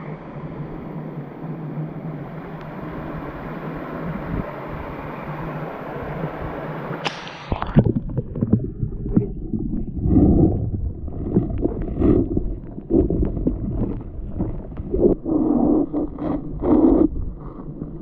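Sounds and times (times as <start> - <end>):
underwater stream gurgling: 0.0 - 18.0.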